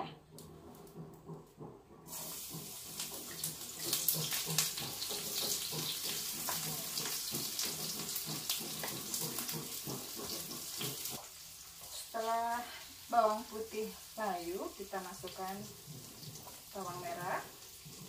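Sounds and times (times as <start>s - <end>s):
garlic and onion sizzling in oil: 2.0s - 18.0s.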